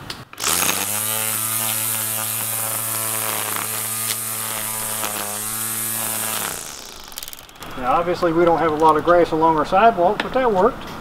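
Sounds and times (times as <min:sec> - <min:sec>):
string trimmer running: 0:00.0 - 0:09.1.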